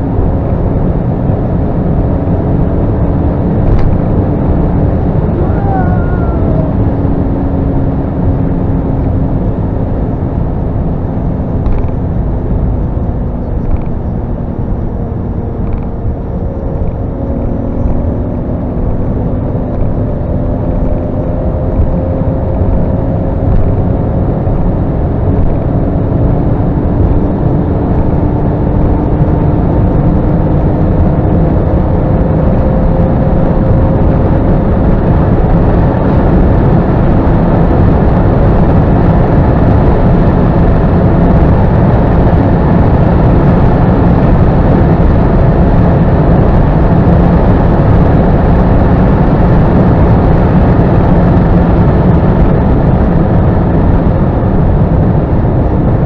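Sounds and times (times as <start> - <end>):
car engine at full throttle: 0.0 - 56.0
wind and tyre noise: 0.0 - 56.0.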